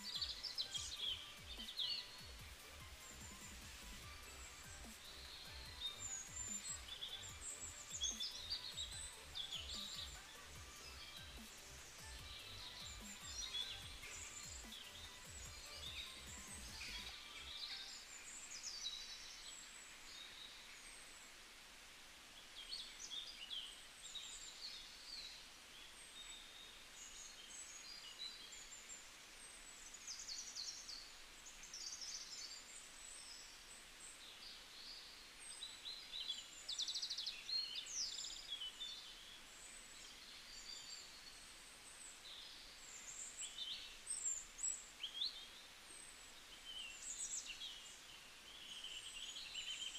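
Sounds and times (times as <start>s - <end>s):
birds chirping and trilling: 0.0s - 49.9s
faint steady hiss: 0.0s - 49.9s.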